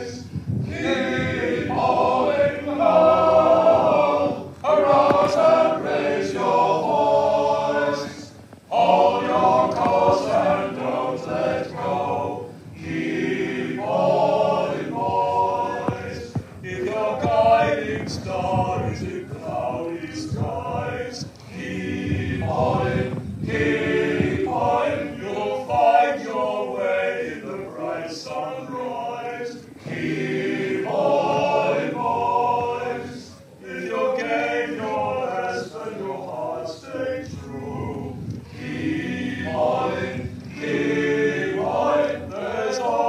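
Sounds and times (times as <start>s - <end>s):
group singing unaccompanied: 0.0s - 43.0s.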